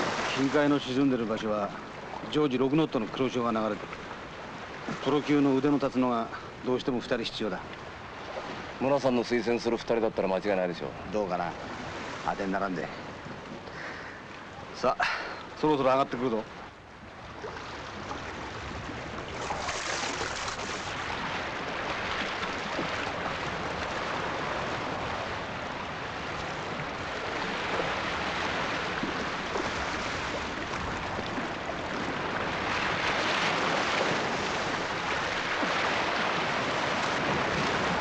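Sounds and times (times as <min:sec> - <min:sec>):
sea water washing and splashing: 0:00.0 - 0:10.2, 0:17.1 - 0:38.0.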